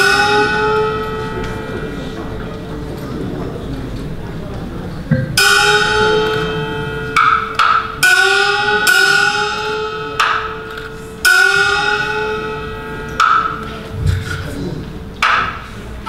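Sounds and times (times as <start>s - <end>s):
small gong ringing: 0.0s - 16.0s.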